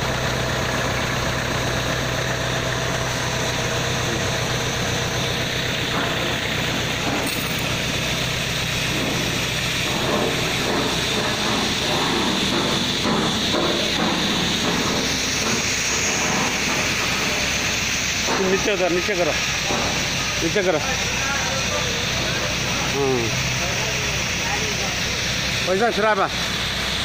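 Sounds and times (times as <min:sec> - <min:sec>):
sprayer hiss: 0:00.0 - 0:27.0
tractor engine running: 0:00.0 - 0:27.0.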